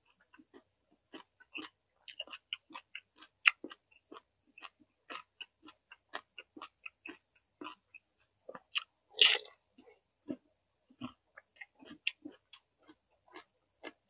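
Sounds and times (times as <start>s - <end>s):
chewing with wet mouth clicks: 0.1s - 10.4s, 11.0s - 14.0s.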